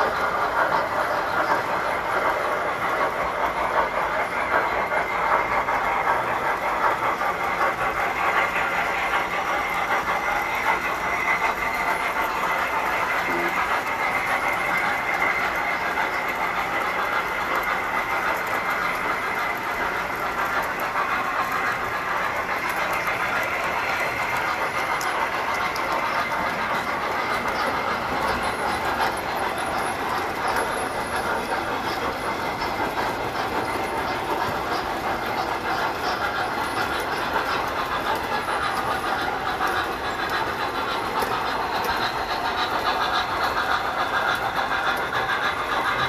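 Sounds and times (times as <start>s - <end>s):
metal wheels clattering on track: 0.0s - 46.0s.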